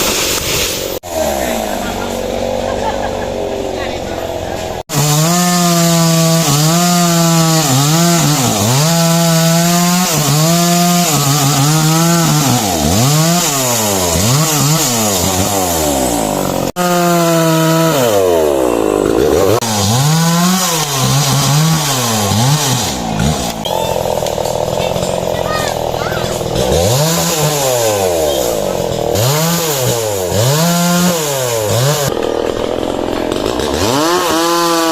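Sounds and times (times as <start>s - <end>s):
two-stroke power tool engine: 0.0s - 34.9s.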